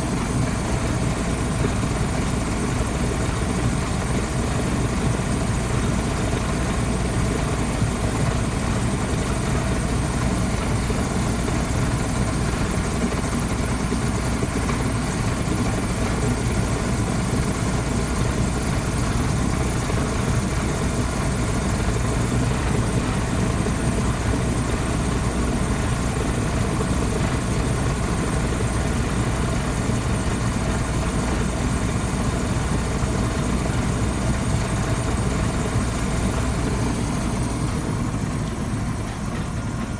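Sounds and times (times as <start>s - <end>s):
furnace burner and blower: 0.0s - 39.9s.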